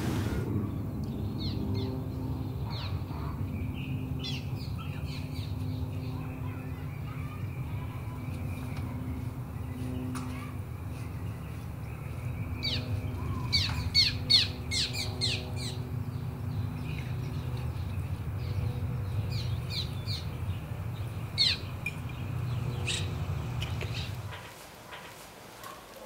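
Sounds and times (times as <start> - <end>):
steady low rumble: 0.0 - 24.6
small birds chirping: 0.3 - 26.0.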